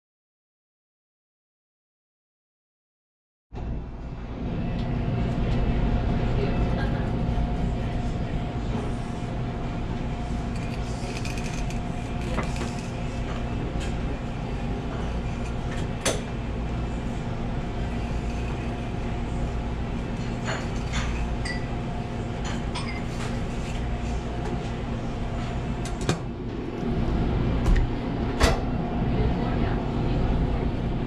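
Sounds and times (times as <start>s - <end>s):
kitchen machinery humming: 4.0s - 31.0s.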